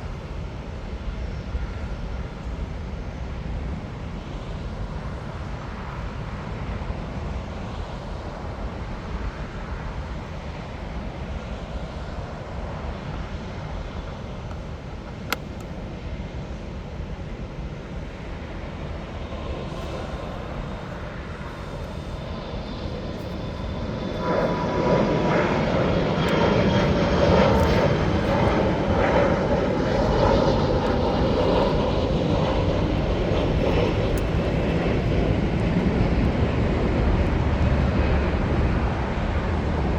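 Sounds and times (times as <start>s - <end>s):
faint engine whine: 0.0s - 39.9s
jet engines rumbling: 0.0s - 39.9s.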